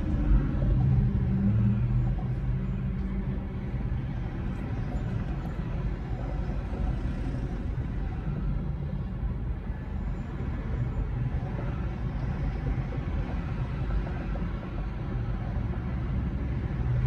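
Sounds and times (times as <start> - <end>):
faint engine hum: 0.0 - 17.0.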